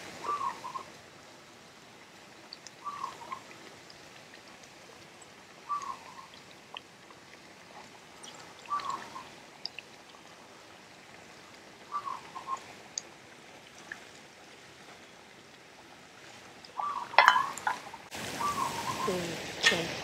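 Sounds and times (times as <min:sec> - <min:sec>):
food simmering in a frying pan: 0:00.0 - 0:20.0.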